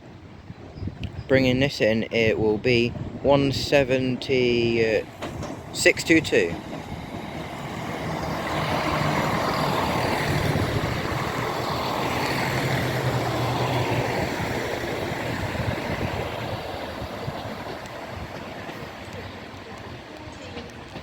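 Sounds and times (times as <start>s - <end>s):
diesel train arriving: 0.0s - 21.0s.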